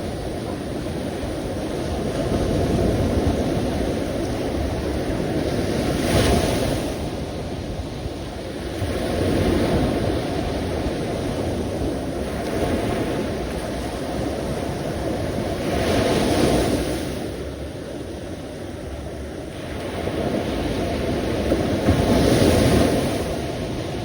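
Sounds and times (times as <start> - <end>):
sea surf washing: 0.0 - 24.0.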